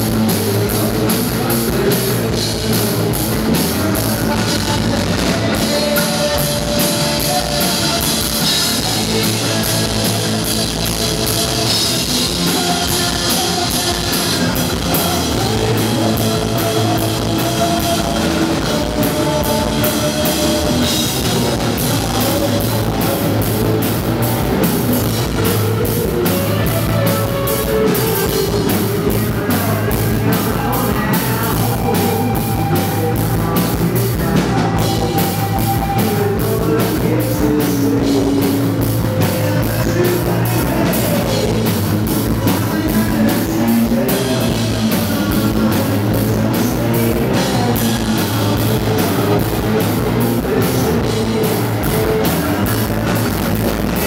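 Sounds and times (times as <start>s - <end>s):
electric guitars: 0.0s - 54.0s
male lead vocal: 0.0s - 54.0s
pounding drum kit: 0.0s - 54.0s.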